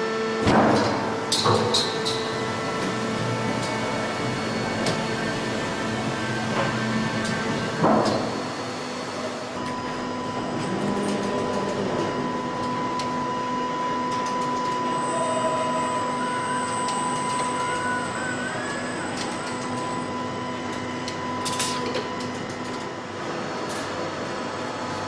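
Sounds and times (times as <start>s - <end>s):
high steady whine: 0.0s - 25.0s
machinery hum and hiss: 0.0s - 25.0s.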